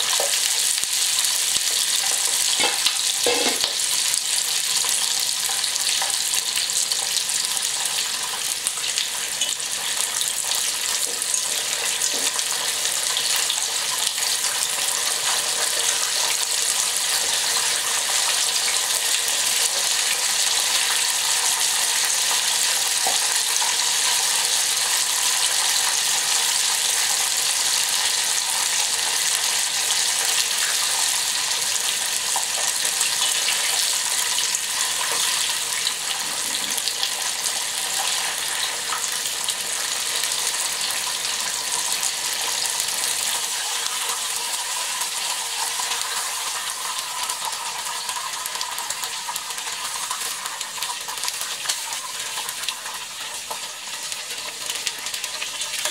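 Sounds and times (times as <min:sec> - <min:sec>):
chicken frying in oil: 0:00.0 - 0:55.9.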